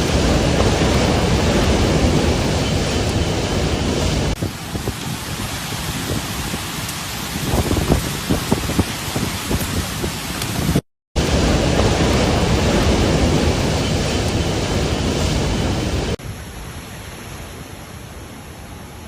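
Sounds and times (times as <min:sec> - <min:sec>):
loud rushing noise: 0:00.0 - 0:16.2.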